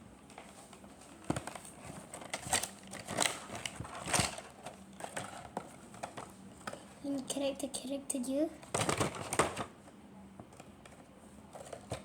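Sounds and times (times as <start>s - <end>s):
plastic packaging clicks and crinkles: 0.3s - 6.9s, 8.6s - 12.0s.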